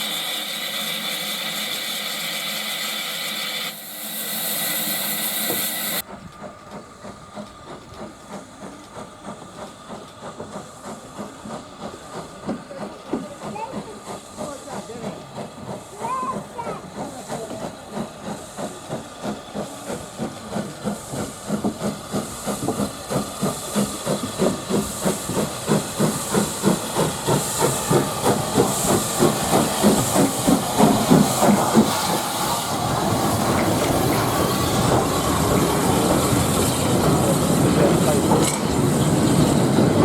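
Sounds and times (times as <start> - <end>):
steam locomotive exhaust beats: 0.0 - 40.0.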